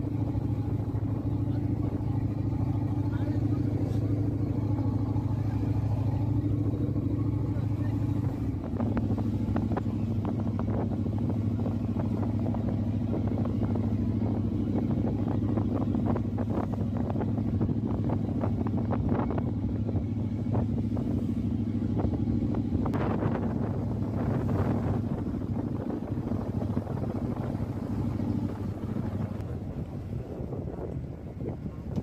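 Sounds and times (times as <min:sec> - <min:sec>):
motor running steadily: 0:00.0 - 0:32.0.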